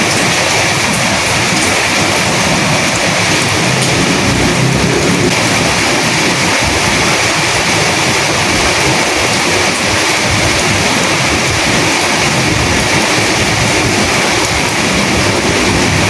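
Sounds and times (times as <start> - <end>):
steady rain: 0.0 - 16.0
wind: 0.0 - 16.0.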